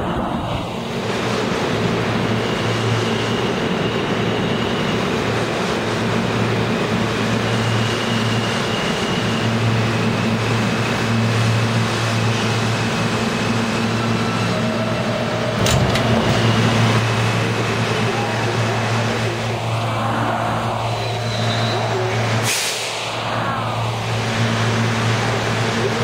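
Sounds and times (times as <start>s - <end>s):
subway train wheels rumbling: 0.0s - 26.0s.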